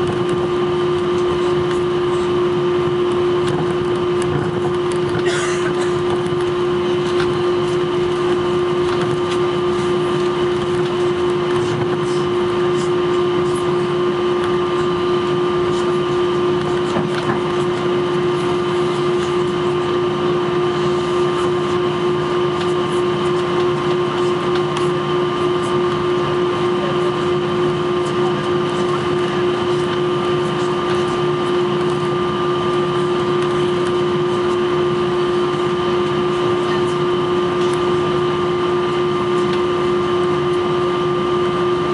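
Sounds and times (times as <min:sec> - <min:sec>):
jet engines idling in cabin: 0:00.0 - 0:41.9.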